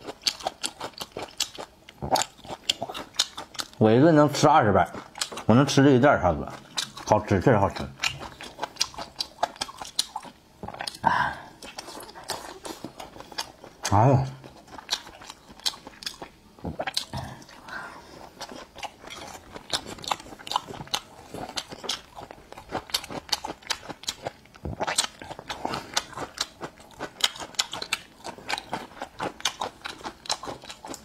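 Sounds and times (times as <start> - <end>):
crunchy chewing: 0.0 - 3.8, 4.7 - 5.8, 6.4 - 31.0.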